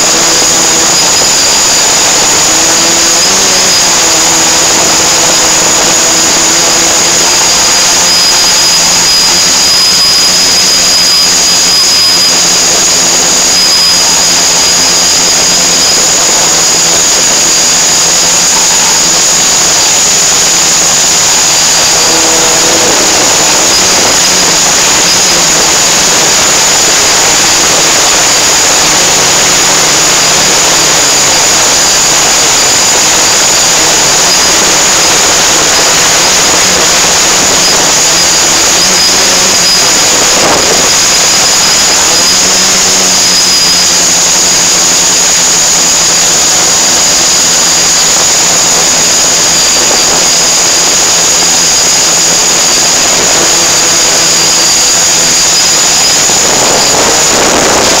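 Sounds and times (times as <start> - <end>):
high steady motor whine: 0.0 - 58.0
low hum: 0.0 - 58.0
rush of air from propellers: 0.0 - 58.0.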